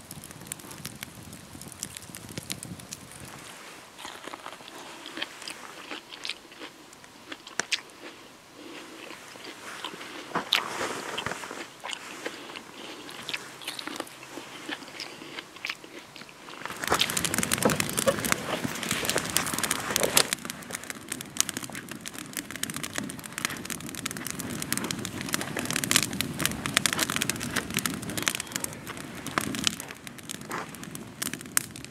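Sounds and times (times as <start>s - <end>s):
wood fire crackling: 0.0s - 31.9s
chewing corn on the cob: 4.0s - 31.9s.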